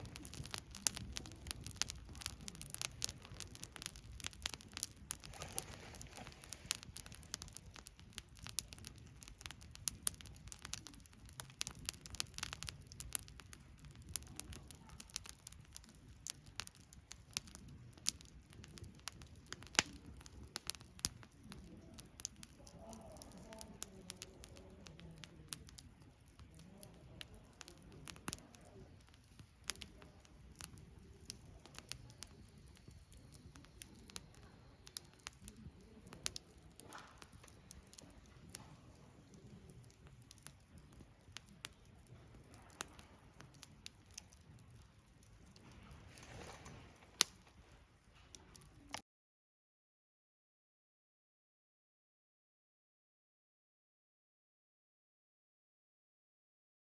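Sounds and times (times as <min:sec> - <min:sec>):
campfire crackling and popping: 0:00.0 - 0:49.0
low rumble of flames: 0:00.0 - 0:49.0.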